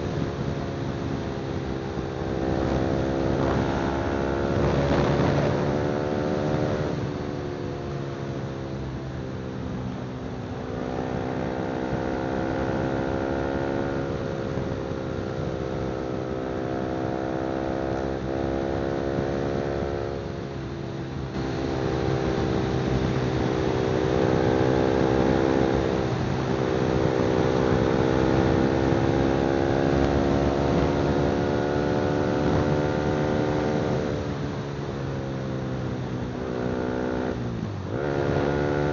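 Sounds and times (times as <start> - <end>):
motorcycle engine while riding: 0.0 - 38.9.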